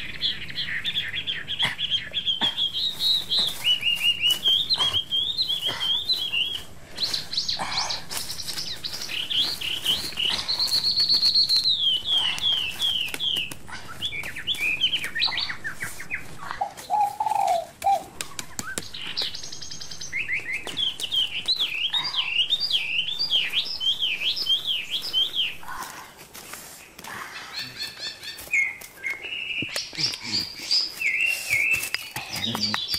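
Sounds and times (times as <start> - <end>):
birds chirping and singing: 0.0 - 32.9.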